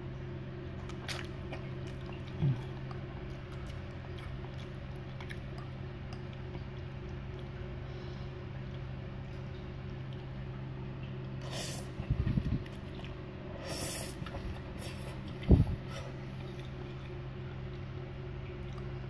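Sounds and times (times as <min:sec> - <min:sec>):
low background hum: 0:00.0 - 0:19.0
wet chewing of noodles: 0:00.8 - 0:10.4, 0:11.4 - 0:19.0.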